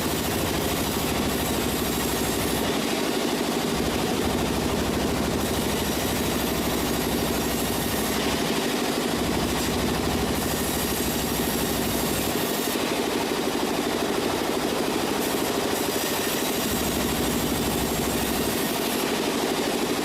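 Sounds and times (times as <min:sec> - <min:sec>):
sawmill machinery humming: 0:00.0 - 0:20.0.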